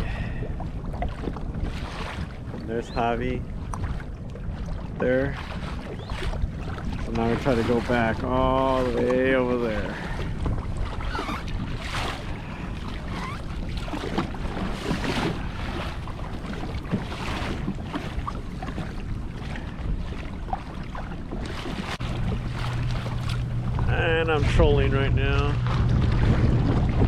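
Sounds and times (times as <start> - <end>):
water sloshing against kayak hull: 0.0 - 27.0
wind buffeting microphone: 0.0 - 27.0.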